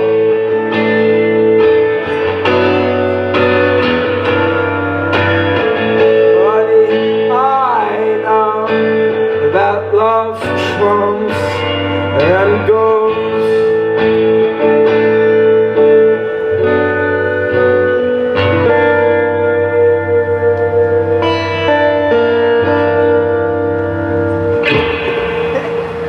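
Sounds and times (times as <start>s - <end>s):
electric guitar sustained notes: 0.0s - 26.0s.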